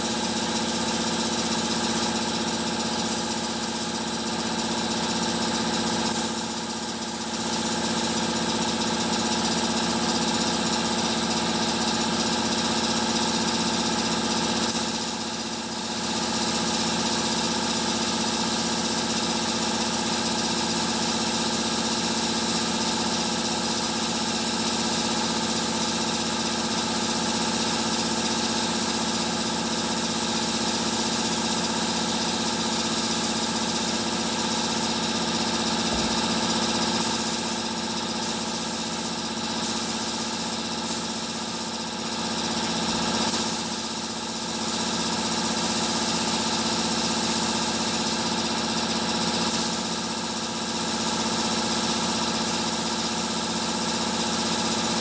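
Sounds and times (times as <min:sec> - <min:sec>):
spray gun hissing compressed air: 0:00.0 - 0:11.3, 0:13.9 - 0:48.8, 0:49.4 - 0:55.0.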